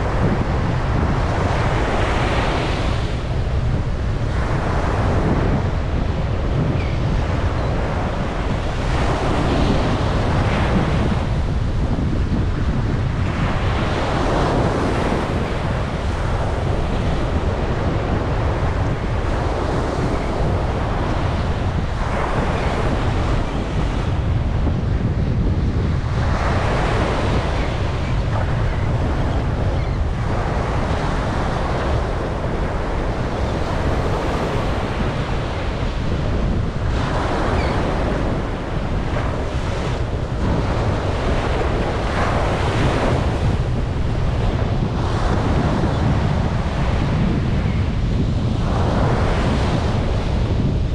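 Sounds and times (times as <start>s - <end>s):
ocean waves breaking on beach: 0.0s - 50.9s
wind rumble on microphone: 0.0s - 50.9s.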